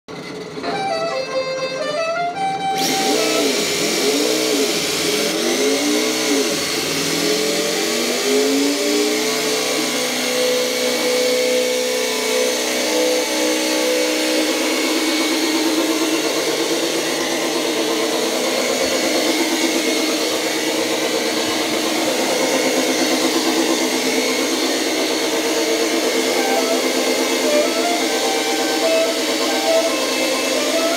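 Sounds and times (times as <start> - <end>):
toy car motor whirring: 0.1 - 30.9
wheels spinning on tiles: 0.1 - 30.9.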